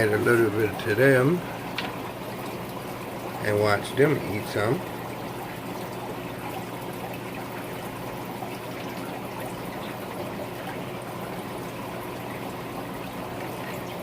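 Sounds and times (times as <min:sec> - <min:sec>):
aquarium water trickling: 0:00.0 - 0:14.0
electrical hum of filters: 0:00.0 - 0:14.0.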